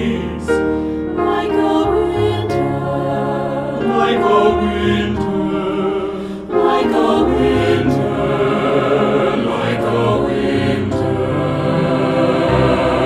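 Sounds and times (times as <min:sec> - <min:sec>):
choir singing: 0:00.0 - 0:13.0
piano accompaniment: 0:00.0 - 0:13.0.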